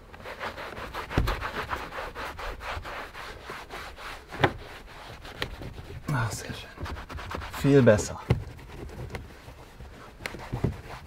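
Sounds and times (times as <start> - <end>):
cloth rubbing on interior trim: 0.0 - 11.0.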